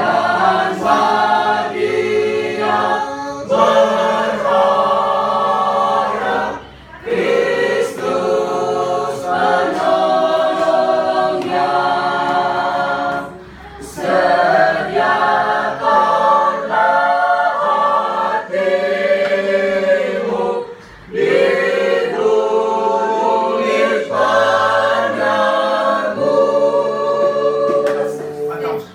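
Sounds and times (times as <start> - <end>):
church choir singing: 0.0 - 28.9.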